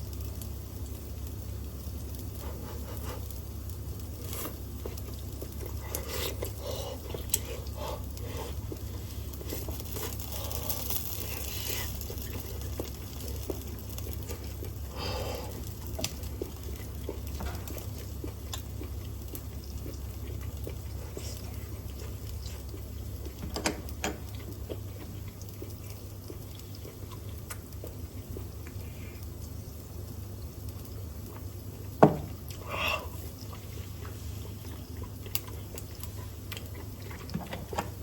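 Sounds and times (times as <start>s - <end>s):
ventilation fan humming: 0.0s - 38.0s.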